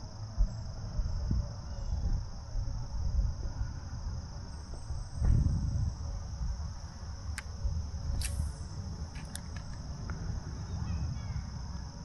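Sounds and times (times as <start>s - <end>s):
insects chirring: 0.0s - 12.0s
wind rumble on microphone: 0.0s - 12.0s.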